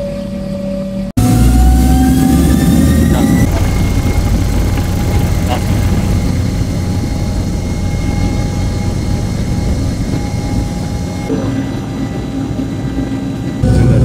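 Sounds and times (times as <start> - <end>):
jet engine roar in cabin: 0.0 - 14.0.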